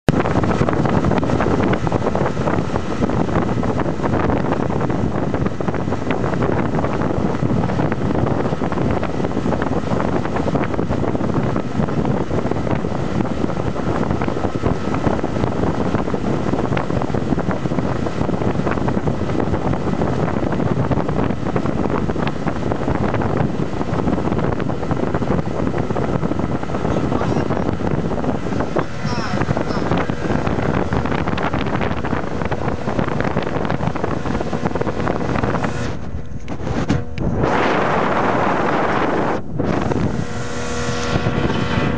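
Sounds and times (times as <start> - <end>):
wind buffeting microphone: 0.0 - 41.9
boat engine drone: 0.1 - 41.9
water spraying off hull: 0.1 - 41.9.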